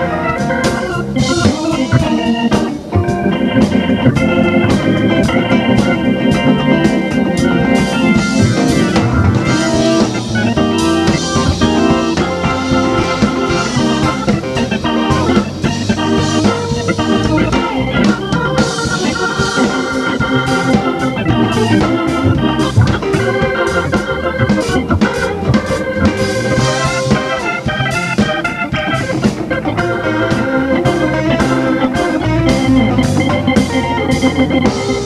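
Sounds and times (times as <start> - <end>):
live band playing: 0.0 - 35.0
organ: 0.0 - 35.0.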